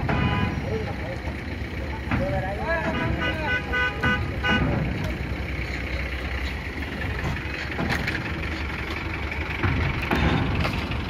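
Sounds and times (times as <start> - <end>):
car engines rumbling: 0.0 - 11.0.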